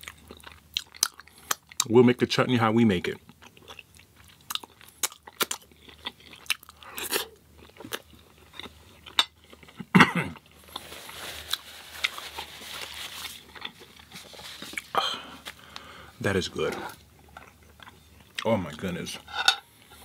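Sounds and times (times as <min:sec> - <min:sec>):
crunching and chewing food: 0:00.0 - 0:02.1, 0:03.0 - 0:19.0.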